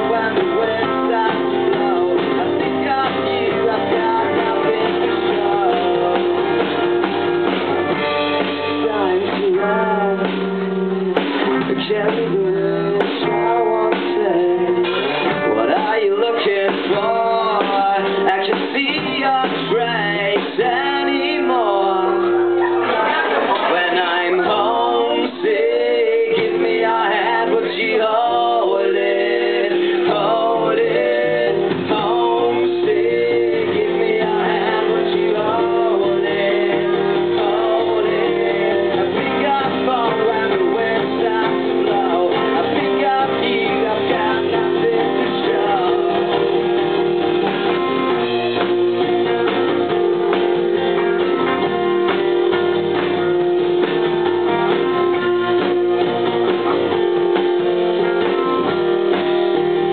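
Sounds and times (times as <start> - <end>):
man singing: 0.0 - 7.3, 7.9 - 53.2
acoustic guitar: 0.0 - 59.9
drums: 0.0 - 59.9
electric guitar: 0.0 - 59.9.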